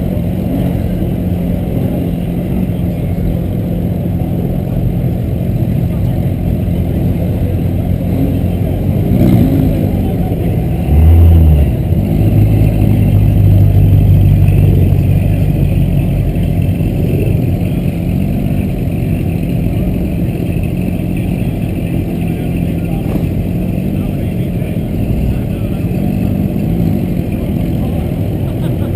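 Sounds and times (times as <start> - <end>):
car engine rumbling and revving: 0.0 - 28.9.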